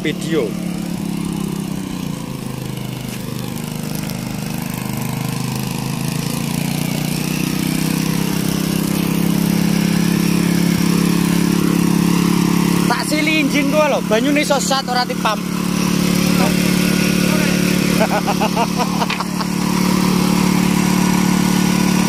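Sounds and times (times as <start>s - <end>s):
water pump engine droning: 0.0s - 22.0s.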